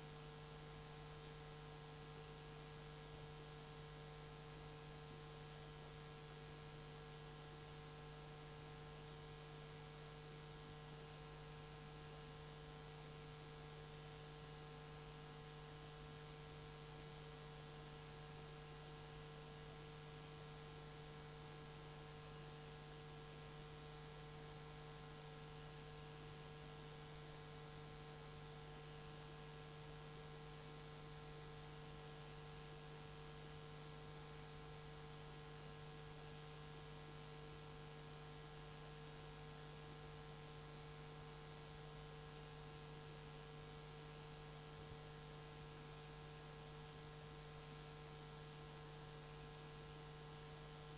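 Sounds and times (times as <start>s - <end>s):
electrical hum with hiss: 0.0s - 50.9s.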